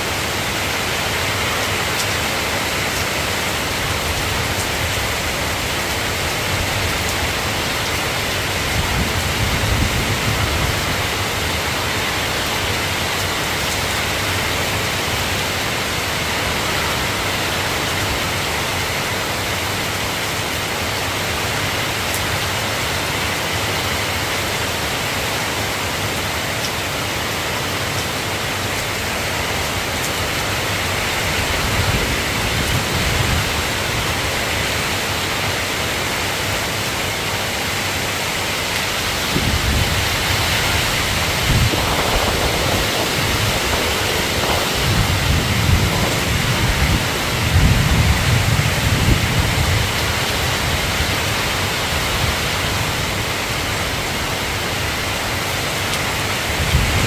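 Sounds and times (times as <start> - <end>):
soft rain falling: 0.0 - 57.0.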